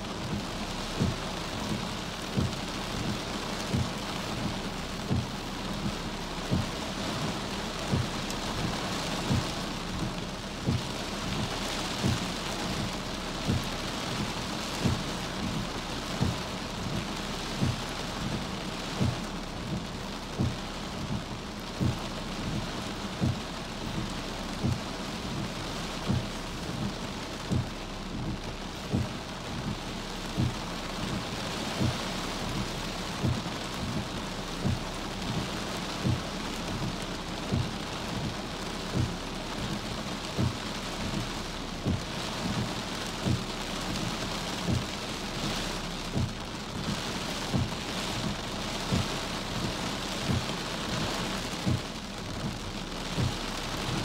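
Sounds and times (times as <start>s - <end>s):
dull low thud: 0.0s - 54.0s
heavy rain hissing: 0.0s - 54.0s.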